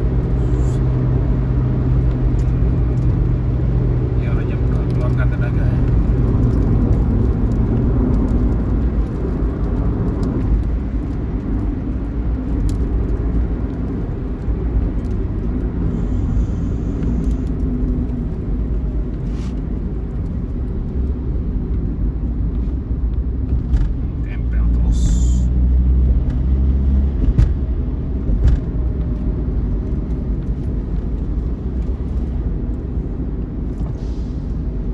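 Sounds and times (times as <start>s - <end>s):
bus engine and road noise: 0.0s - 34.9s.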